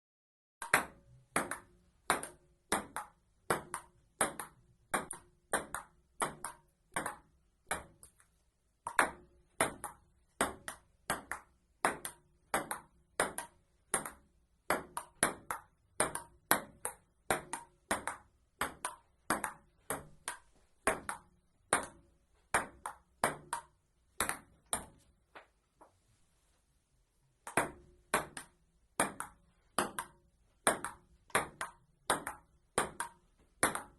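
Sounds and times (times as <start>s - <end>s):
table tennis ball hits: 0.6s - 8.2s, 8.8s - 25.0s, 27.4s - 33.9s.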